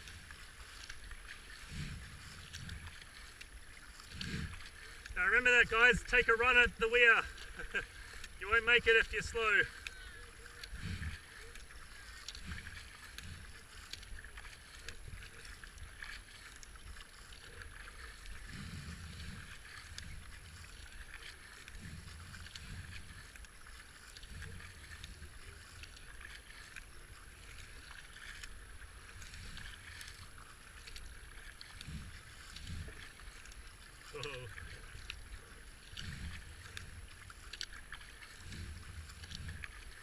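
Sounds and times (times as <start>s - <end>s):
water splashing along hull: 0.0s - 40.0s.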